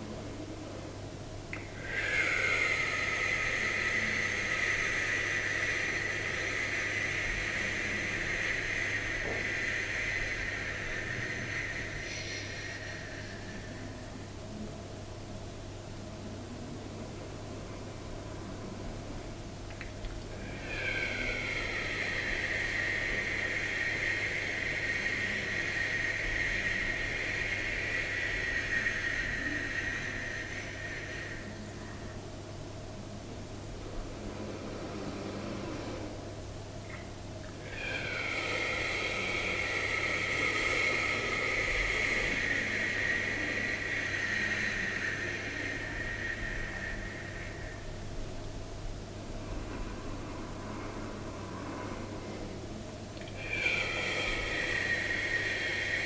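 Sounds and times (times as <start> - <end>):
person exhaling a hushing hiss: 1.5 - 56.0.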